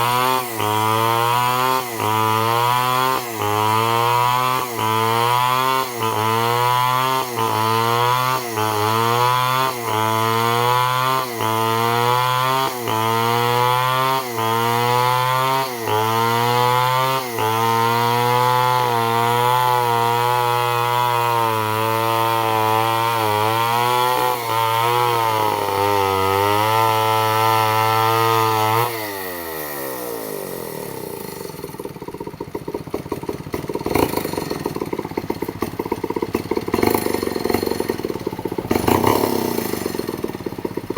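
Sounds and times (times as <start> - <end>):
chainsaw ripping a log: 0.0 - 40.9.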